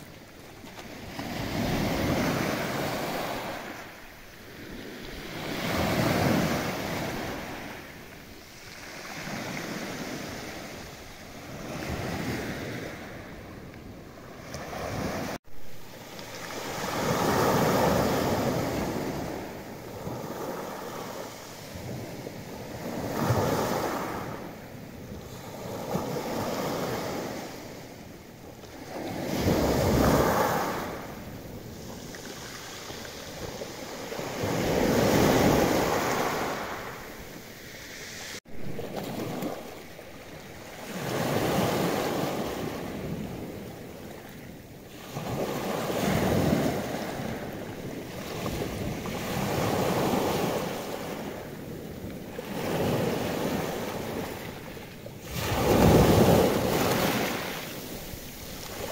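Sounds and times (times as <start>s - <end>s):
waves breaking on beach: 0.0s - 58.9s.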